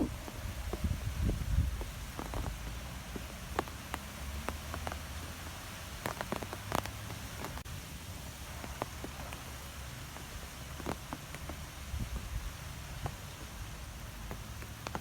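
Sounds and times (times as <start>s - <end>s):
wind blowing through trees: 0.0s - 15.0s
wind rumble on microphone: 0.0s - 15.0s.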